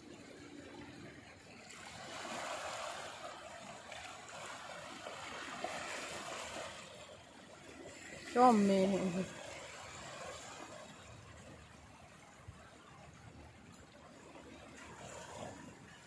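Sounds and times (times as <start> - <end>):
small waves washing on beach: 0.0 - 16.0.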